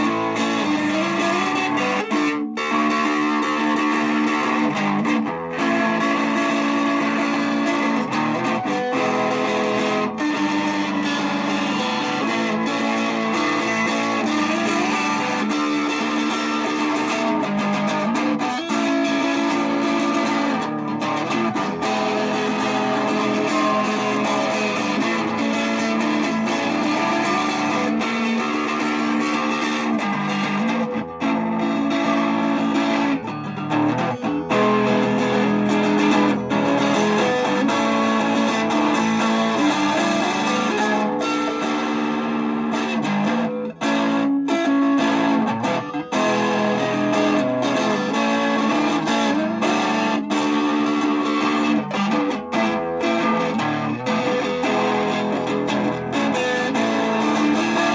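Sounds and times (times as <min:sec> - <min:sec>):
electric guitar playing held notes: 0:00.0 - 0:57.9.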